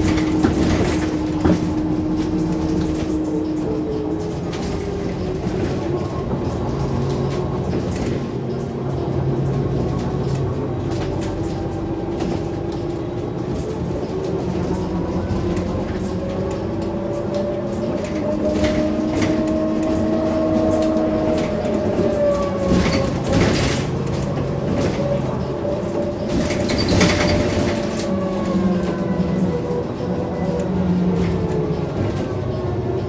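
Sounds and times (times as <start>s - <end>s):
bus engine drone: 0.0s - 33.0s
interior rattles and clicks: 0.0s - 33.0s.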